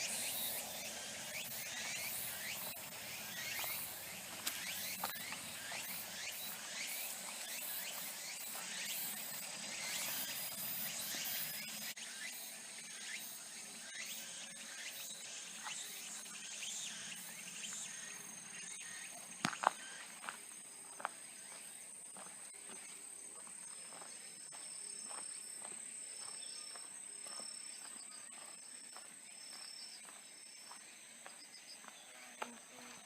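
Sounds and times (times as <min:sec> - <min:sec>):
insect trill: 0:00.0 - 0:33.0
insects droning: 0:00.0 - 0:33.0.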